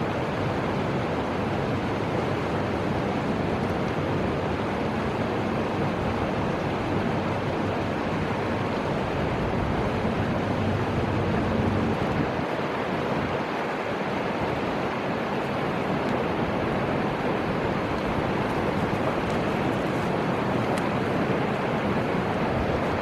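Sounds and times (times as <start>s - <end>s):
river water flowing: 0.0s - 23.0s
wind: 0.0s - 23.0s.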